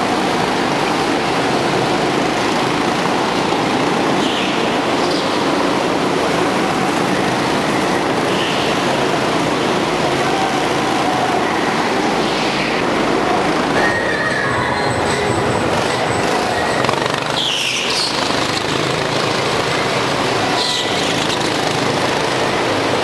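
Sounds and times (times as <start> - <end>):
go-kart engines running: 0.0 - 23.0.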